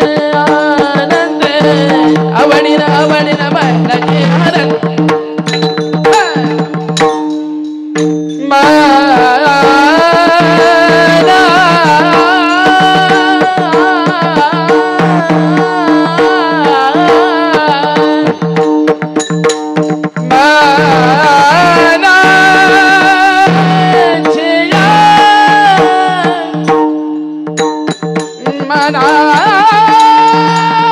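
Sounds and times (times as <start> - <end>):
man singing devotional song: 0.0 - 7.2, 8.0 - 19.4, 20.0 - 30.9
hand drum strokes: 0.0 - 30.9.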